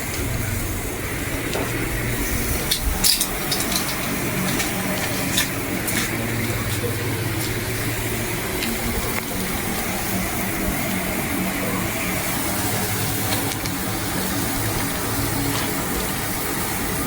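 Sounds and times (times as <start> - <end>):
chicken sizzling on grill: 0.0 - 17.0.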